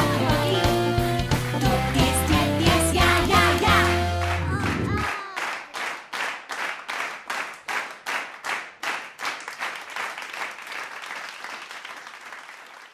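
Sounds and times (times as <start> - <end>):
crowd applauding: 1.6 - 12.9.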